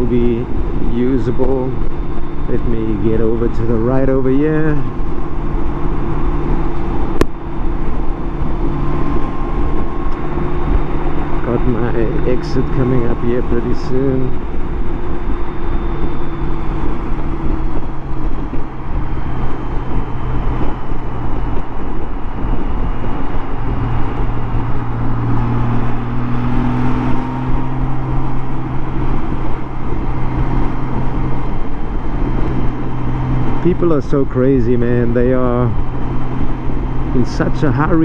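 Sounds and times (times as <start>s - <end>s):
motorcycle engine droning: 0.0s - 38.0s
road noise: 0.0s - 38.0s
wind noise: 0.0s - 38.0s.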